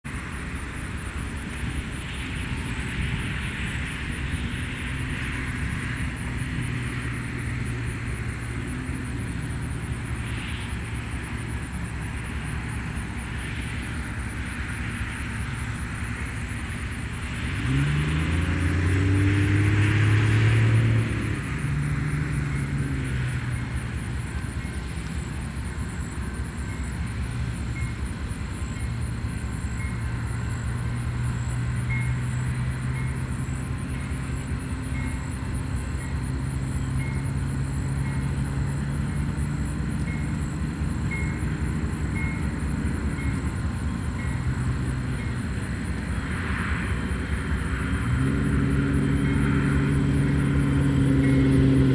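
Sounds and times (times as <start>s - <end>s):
distant locomotive engines humming: 0.0s - 51.9s.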